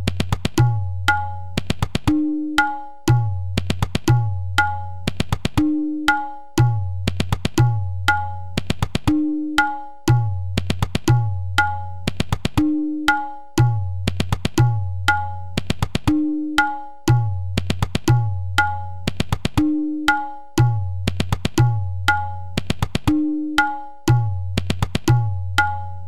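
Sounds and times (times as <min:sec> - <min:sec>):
tabla playing: 0:00.0 - 0:26.0.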